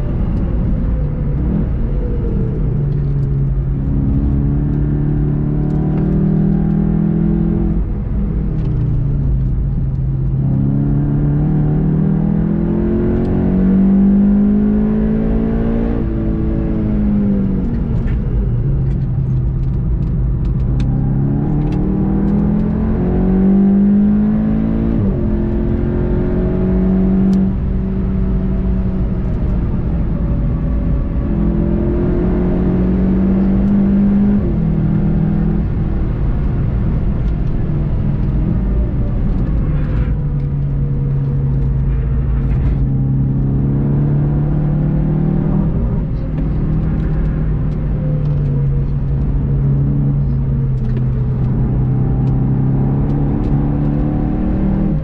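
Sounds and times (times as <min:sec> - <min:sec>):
road and tyre noise: 0:00.0 - 0:55.0
turbocharged car engine accelerating: 0:00.0 - 0:55.0.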